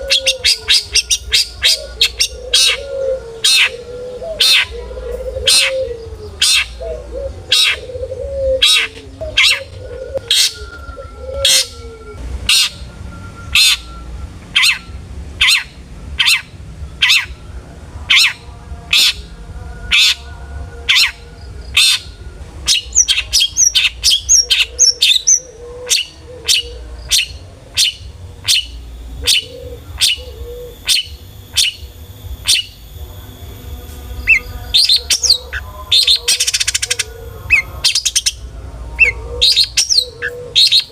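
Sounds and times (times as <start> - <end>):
shrike calling harshly: 0.0 - 40.9
soft warbled bird notes: 0.0 - 40.9.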